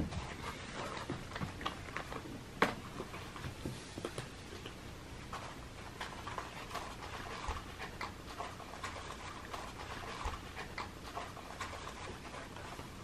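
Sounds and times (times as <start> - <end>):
cat eating crunchy food: 0.0 - 13.0.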